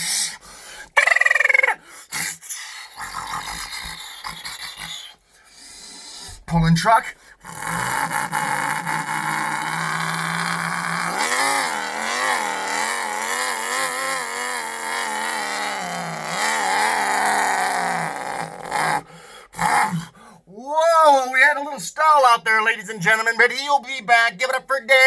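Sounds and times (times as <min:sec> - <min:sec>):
man imitating truck engine: 0:00.0 - 0:05.2, 0:05.8 - 0:21.3.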